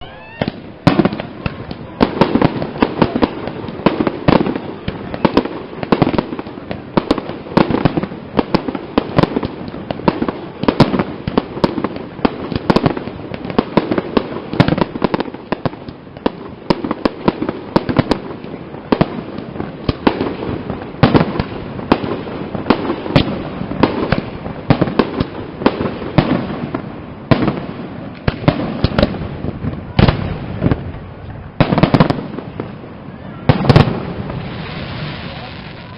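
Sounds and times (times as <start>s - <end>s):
firework crackling: 0.0s - 35.9s.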